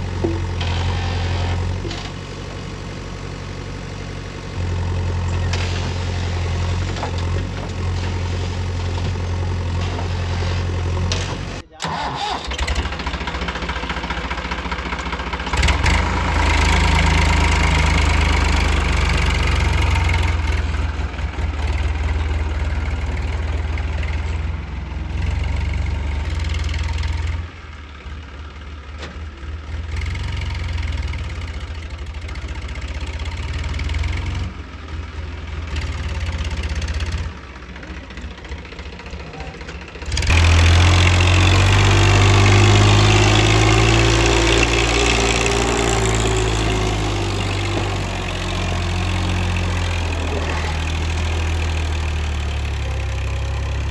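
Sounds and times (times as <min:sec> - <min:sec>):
backhoe diesel engine working: 0:00.0 - 0:53.9.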